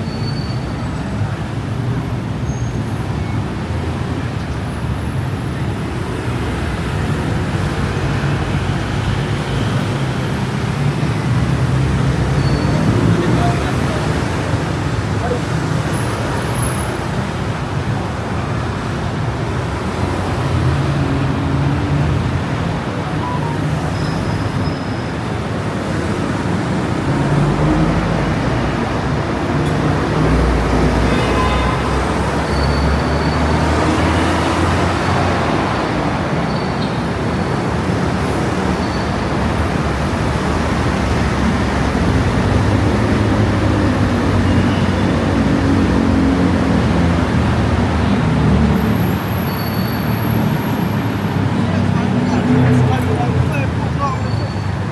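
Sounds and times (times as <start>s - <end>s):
cars and buses passing: 0.0s - 54.9s.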